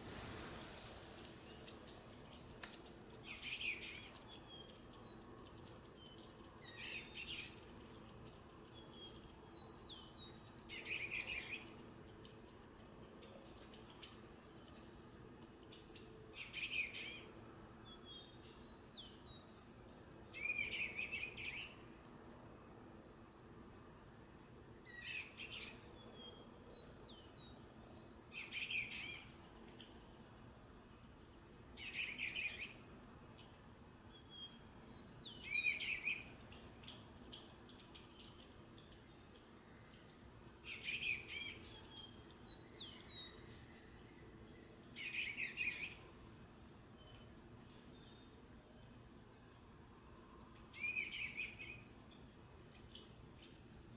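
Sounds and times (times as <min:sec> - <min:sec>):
bird singing soft phrases: 0:00.0 - 0:53.9.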